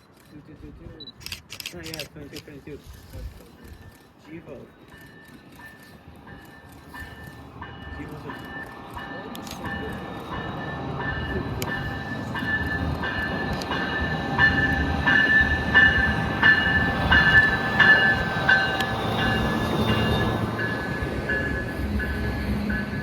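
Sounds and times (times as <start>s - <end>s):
train rumbling past: 2.6s - 23.0s
bell ringing: 3.6s - 23.0s.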